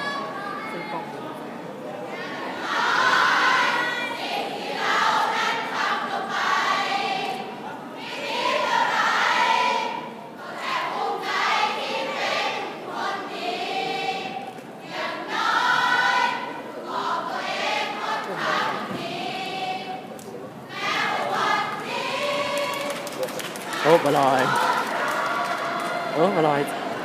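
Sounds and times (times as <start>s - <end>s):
group of voices singing: 2.1s - 27.0s.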